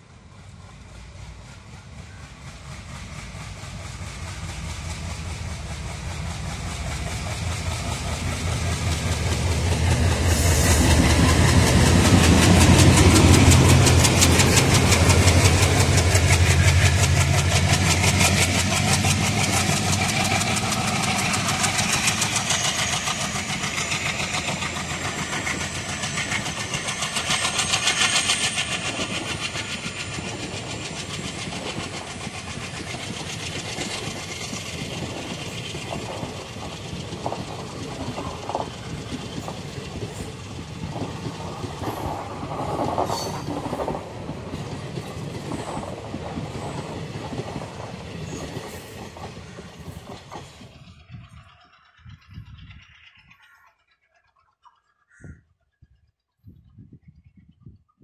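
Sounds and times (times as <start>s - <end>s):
diesel locomotive engines throbbing: 0.0s - 57.0s
train wheels clattering over rail joints: 0.7s - 54.9s.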